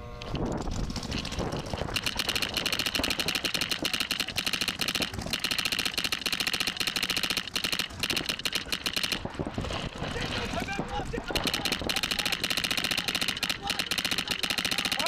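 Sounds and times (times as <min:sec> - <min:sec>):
paintball markers firing rapidly: 0:00.6 - 0:15.0.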